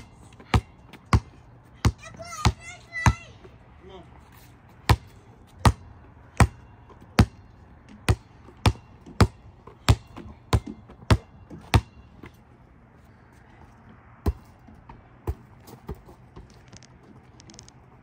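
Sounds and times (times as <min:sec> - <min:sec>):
basketball bouncing on concrete: 0:00.0 - 0:03.6, 0:04.7 - 0:12.4, 0:14.2 - 0:17.4.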